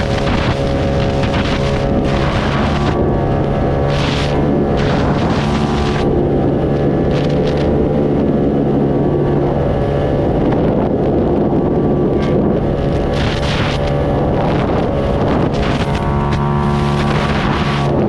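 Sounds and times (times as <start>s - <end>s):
motorcycle engine running: 0.0s - 18.0s
wind on microphone: 0.0s - 18.0s.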